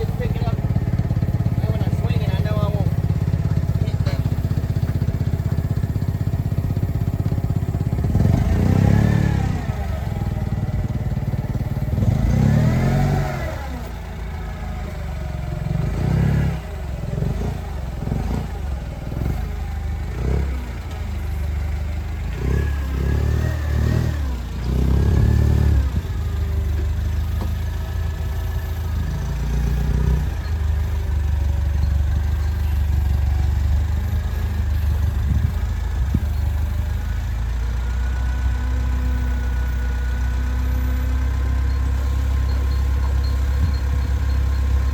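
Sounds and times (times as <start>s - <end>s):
forklift engine revving: 0.0s - 44.9s.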